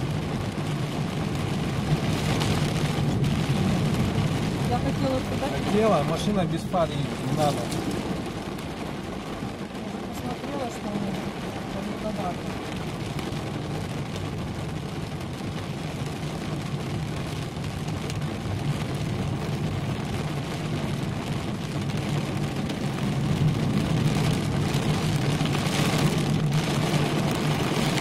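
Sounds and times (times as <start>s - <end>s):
rain hissing on car roof: 0.0s - 28.0s
tyres on flooded road: 0.0s - 28.0s.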